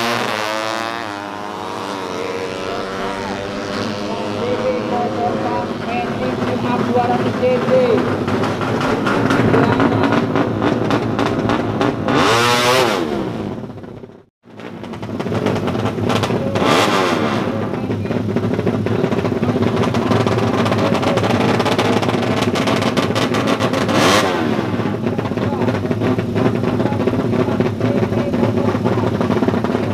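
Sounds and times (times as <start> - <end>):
motorbike engine revving buzzy: 0.0 - 29.9.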